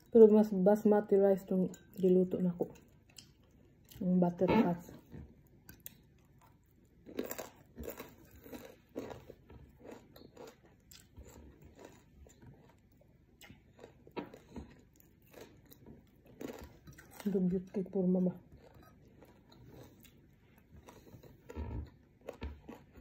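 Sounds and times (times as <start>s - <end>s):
chewing crisp fried fish: 1.8s - 4.1s, 5.3s - 23.0s.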